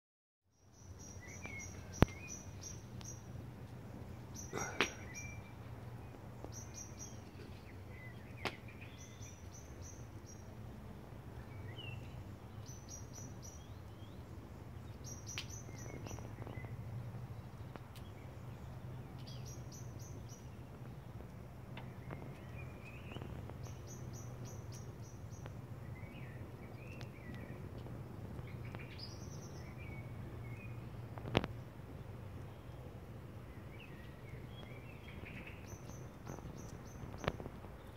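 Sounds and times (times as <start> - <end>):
songbirds chirping: 0.5 - 37.9.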